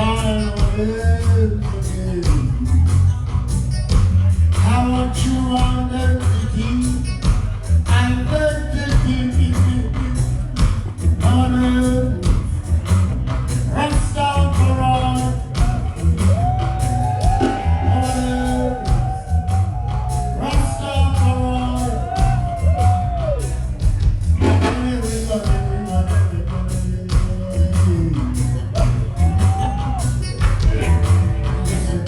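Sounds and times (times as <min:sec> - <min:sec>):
reggae band playing: 0:00.0 - 0:32.0.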